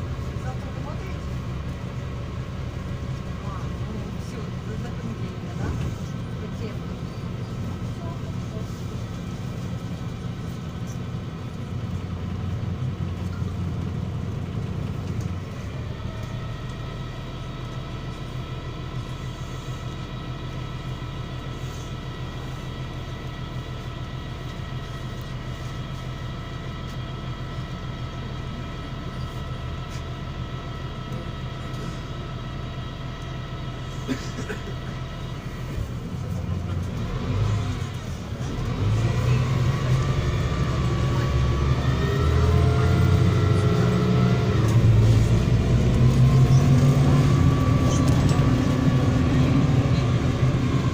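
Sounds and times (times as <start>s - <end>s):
bus engine and road rumble: 0.0s - 50.9s.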